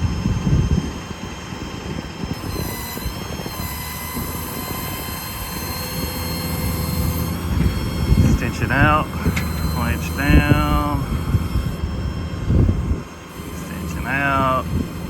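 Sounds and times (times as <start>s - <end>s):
diesel engine rumble: 0.0s - 15.0s
hydraulic crane whine: 0.0s - 15.0s.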